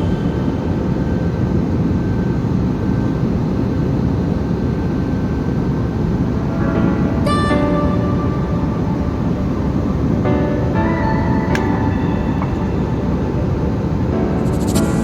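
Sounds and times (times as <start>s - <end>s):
jet airliner noise: 0.0s - 15.0s.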